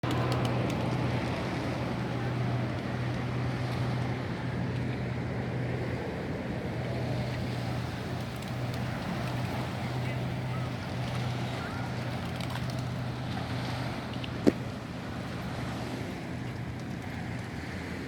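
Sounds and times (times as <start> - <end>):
low engine hum: 0.0 - 18.0
water noise: 0.0 - 18.0.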